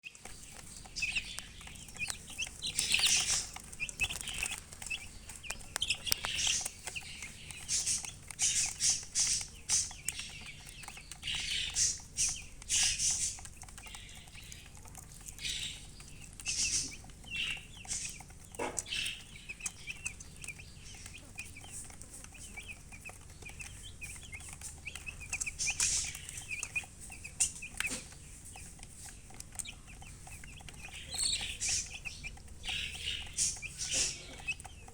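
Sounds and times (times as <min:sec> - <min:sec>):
baby chicks chirping: 0:00.0 - 0:34.9.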